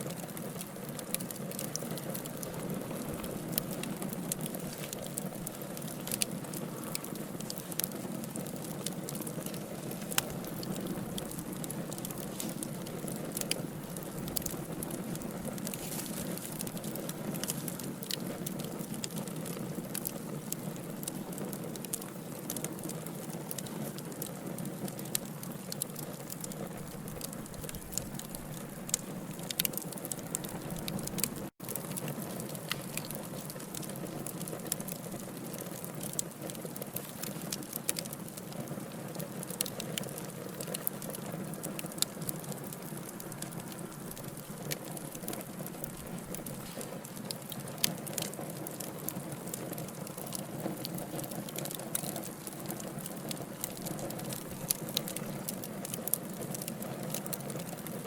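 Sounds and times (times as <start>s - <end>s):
burning logs crackling: 0.0s - 58.0s.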